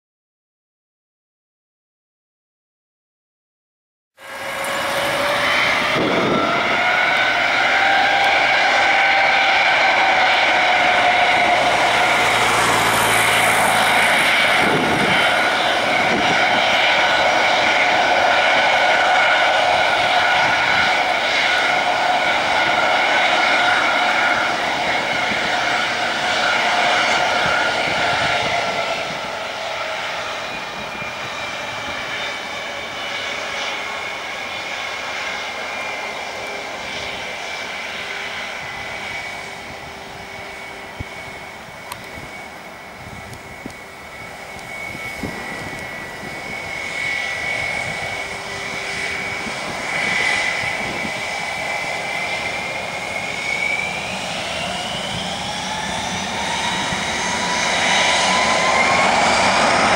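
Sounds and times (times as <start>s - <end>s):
jet engine whine: 4.2s - 59.9s.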